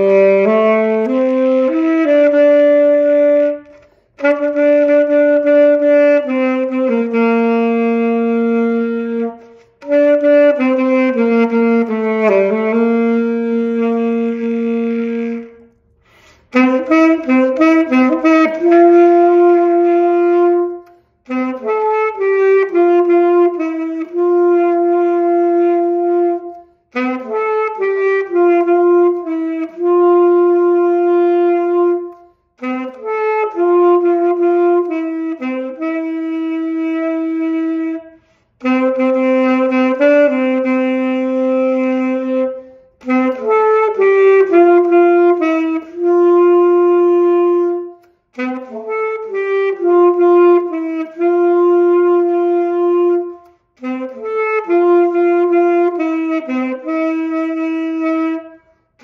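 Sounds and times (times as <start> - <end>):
solo saxophone melody: 0.0 - 59.0.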